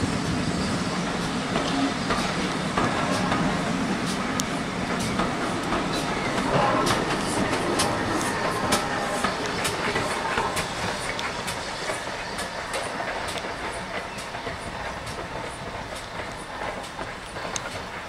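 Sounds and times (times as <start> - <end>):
steam train passing: 0.0 - 18.0
sharp rhythmic clicks: 1.5 - 18.0.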